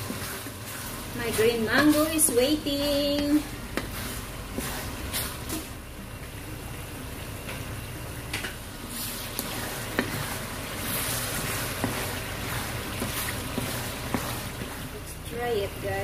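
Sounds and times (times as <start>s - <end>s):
shrimp paste sizzling in oil: 0.0s - 16.0s.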